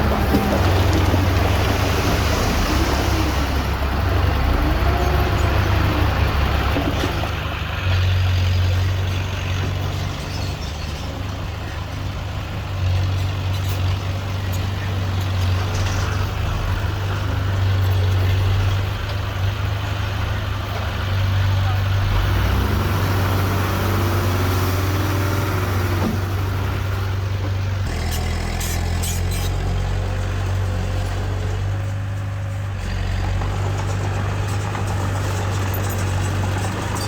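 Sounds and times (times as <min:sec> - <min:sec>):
earthmoving machine diesel engine: 0:00.0 - 0:37.0.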